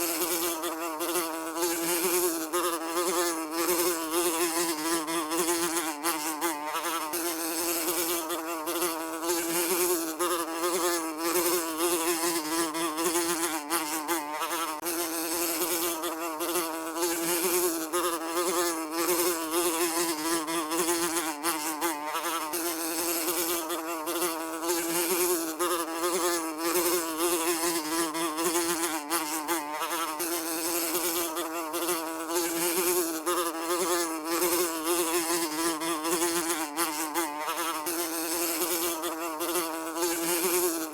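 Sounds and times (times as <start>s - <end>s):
housefly buzzing: 0.0s - 40.9s.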